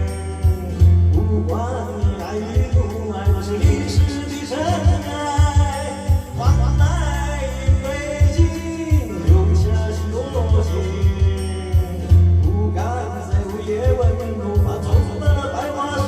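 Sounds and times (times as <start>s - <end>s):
backing track with kick drum: 0.0s - 16.0s
man singing rock song: 0.0s - 16.0s.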